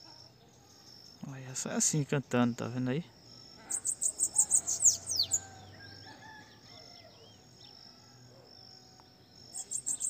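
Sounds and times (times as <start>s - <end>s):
faint bird chirps: 0.0s - 10.0s
insect trill: 0.0s - 10.0s.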